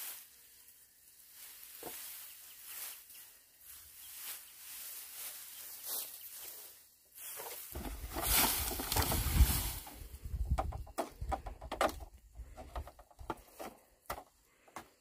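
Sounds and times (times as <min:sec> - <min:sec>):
straw thatch rustling and crackling: 0:00.0 - 0:15.0.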